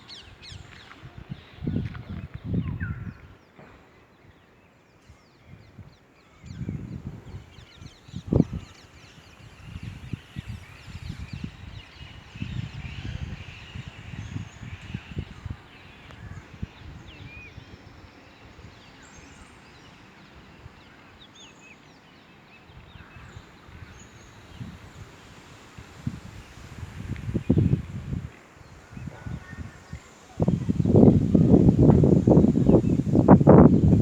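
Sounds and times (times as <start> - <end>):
wind buffeting microphone: 0.0 - 3.4, 5.4 - 19.6, 22.7 - 34.0
birds chirping: 6.2 - 34.0.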